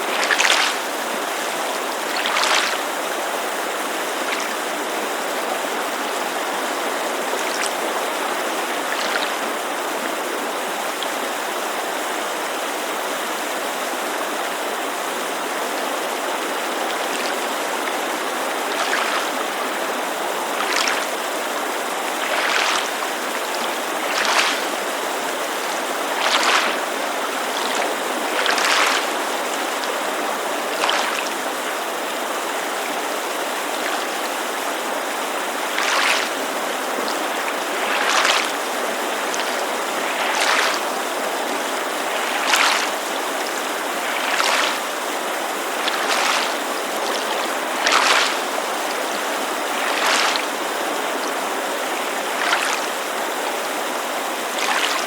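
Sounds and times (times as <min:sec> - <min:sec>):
mountain creek rushing: 0:00.0 - 0:55.0
water lapping against shore: 0:00.0 - 0:55.0.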